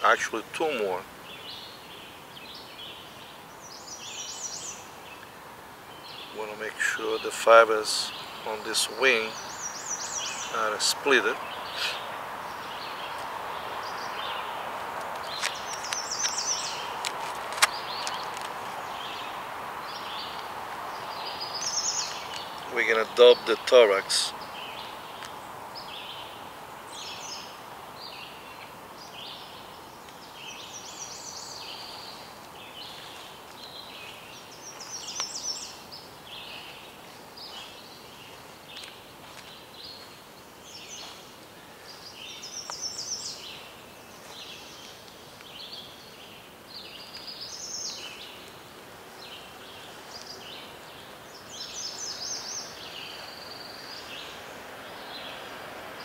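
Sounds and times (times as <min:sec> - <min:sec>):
birds chirping and trilling: 0:00.0 - 0:56.0
faint background hiss: 0:00.0 - 0:56.0.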